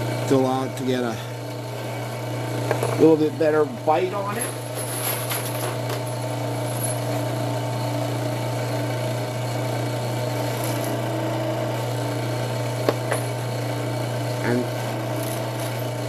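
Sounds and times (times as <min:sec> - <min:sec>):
drill press motor humming: 0:00.0 - 0:16.0.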